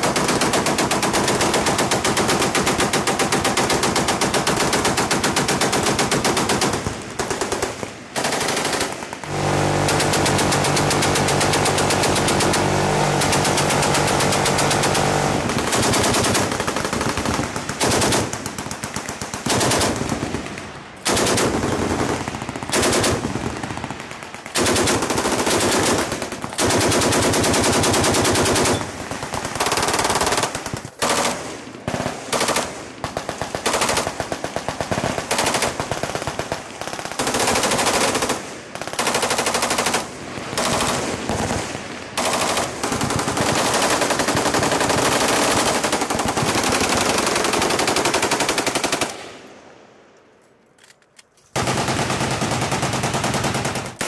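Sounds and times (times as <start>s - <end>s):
machine-gun fire: 0.0s - 49.2s, 51.6s - 54.0s.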